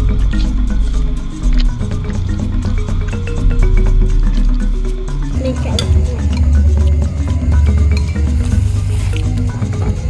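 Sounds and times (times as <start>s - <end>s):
music with heavy bass line: 0.0s - 10.0s.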